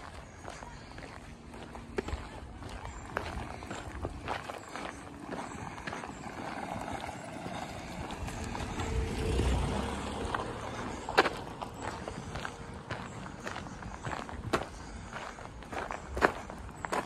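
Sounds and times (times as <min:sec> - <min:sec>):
footsteps on gravel: 0:00.0 - 0:17.0.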